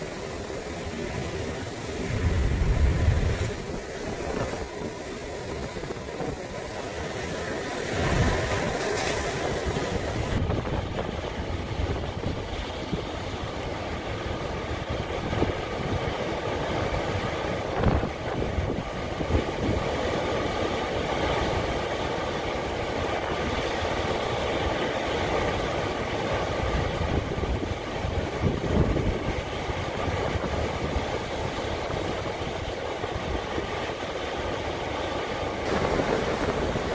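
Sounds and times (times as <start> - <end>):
surf crashing on rocks: 0.0 - 36.9
wind buffeting microphone: 1.2 - 36.9.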